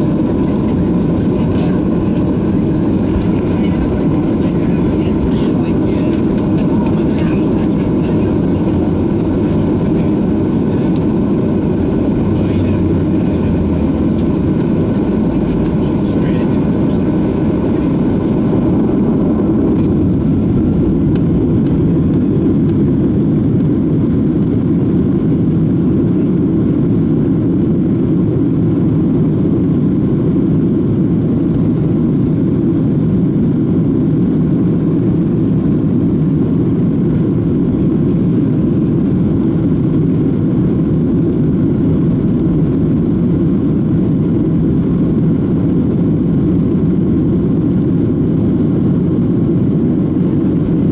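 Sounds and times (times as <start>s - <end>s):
jet engines heard from cabin: 0.0s - 50.9s.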